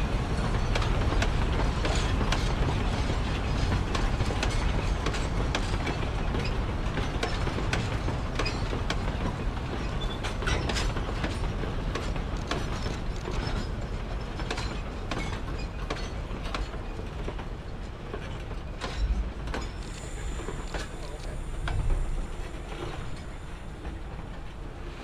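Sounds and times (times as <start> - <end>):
low train rumble: 0.0 - 25.0
train clanking over rail joints: 0.0 - 25.0.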